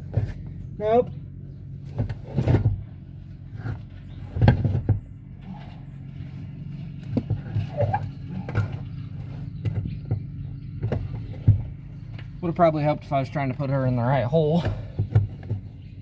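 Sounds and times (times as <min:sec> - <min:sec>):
knocks and clunks of seat shifting: 0:00.0 - 0:16.0
steady low hum: 0:00.0 - 0:16.0.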